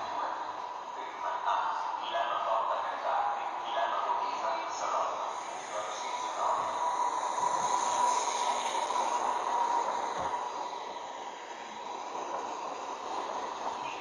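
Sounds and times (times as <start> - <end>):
train rushing noise with whine: 0.0 - 14.0.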